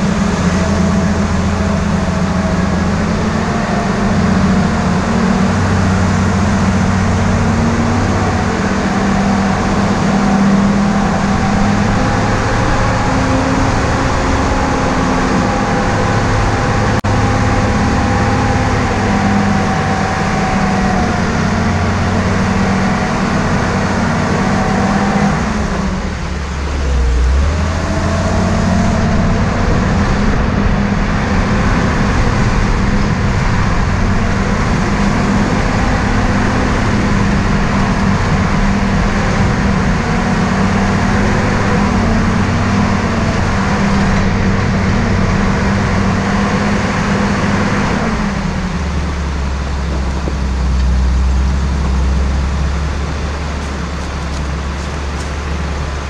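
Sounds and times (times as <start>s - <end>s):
car engine running: 0.0s - 56.0s
tyre and wind noise: 0.0s - 56.0s.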